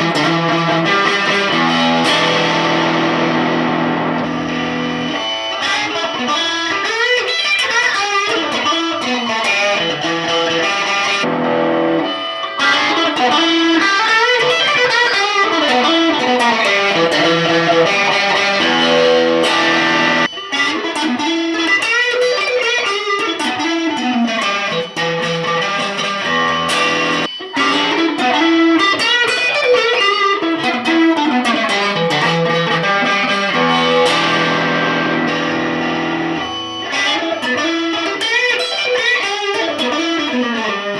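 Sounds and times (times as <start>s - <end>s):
electric guitar runs and arpeggios: 0.0s - 40.9s.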